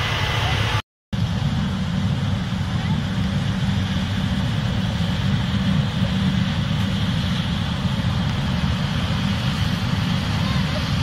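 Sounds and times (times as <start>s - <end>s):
deep engine drone: 0.0s - 11.0s.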